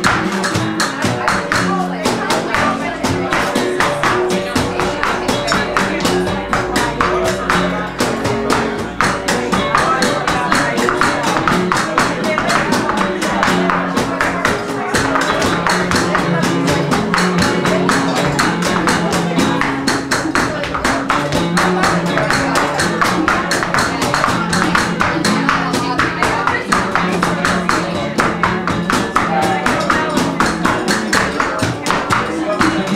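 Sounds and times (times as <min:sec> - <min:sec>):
cajon: 0:00.0 - 0:32.9
nylon-string guitars: 0:00.0 - 0:32.9.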